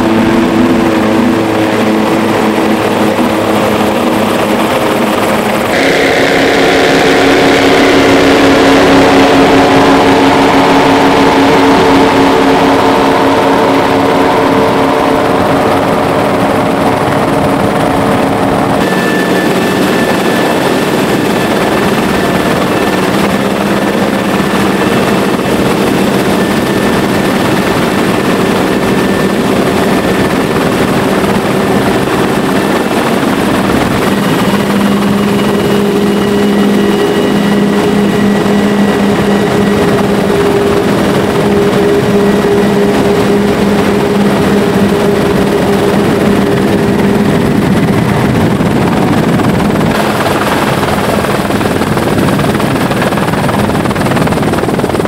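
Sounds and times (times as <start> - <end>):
helicopter engine: 0.0 - 55.0
speedboats running at speed: 0.0 - 55.0.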